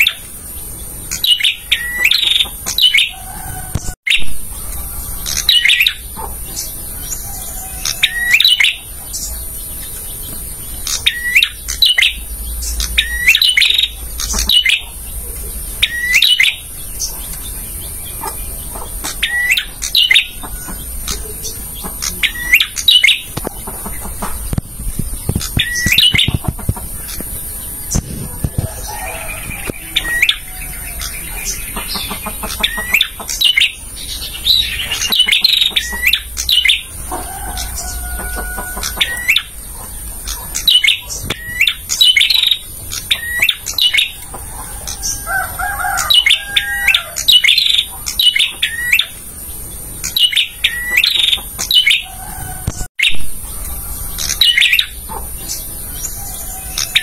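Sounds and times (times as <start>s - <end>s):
bird chirping and twittering: 0.0s - 57.0s.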